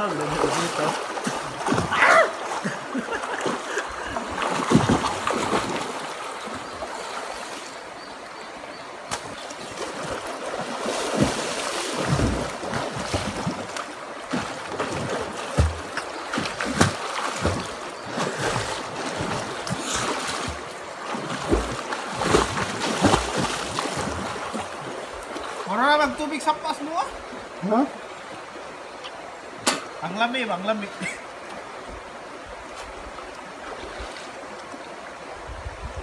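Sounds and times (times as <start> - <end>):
water splashing as people wade: 0.0 - 30.1, 30.8 - 35.4
flowing river water: 0.0 - 36.0.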